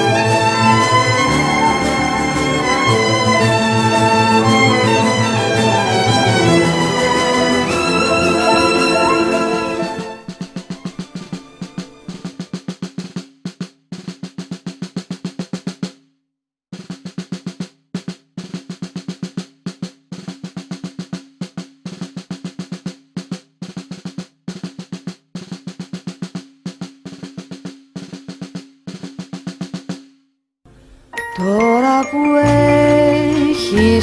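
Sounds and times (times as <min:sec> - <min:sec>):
snare drum march cadence: 0:00.0 - 0:16.0, 0:16.8 - 0:30.2.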